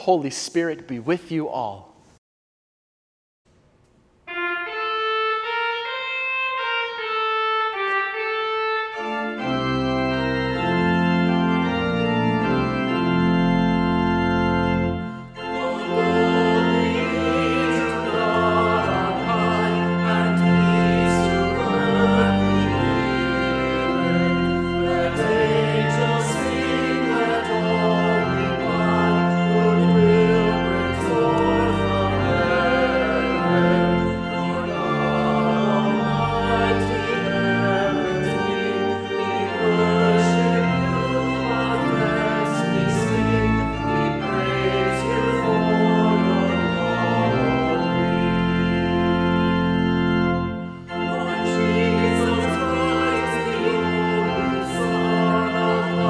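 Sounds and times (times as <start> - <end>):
church organ playing: 3.8 - 56.0.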